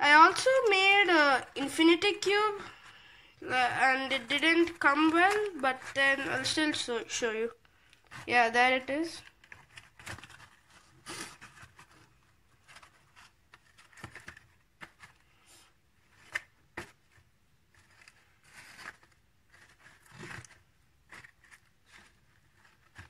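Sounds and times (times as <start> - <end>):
folded paper rustling: 3.6 - 7.4, 8.1 - 23.0.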